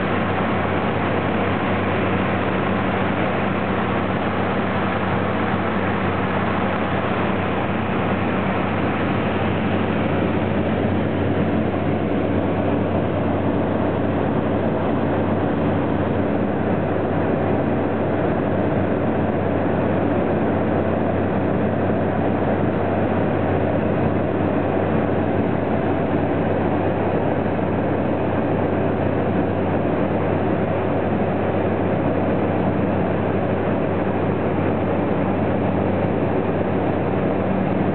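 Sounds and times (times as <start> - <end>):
plane engine and propeller droning: 0.0 - 37.9.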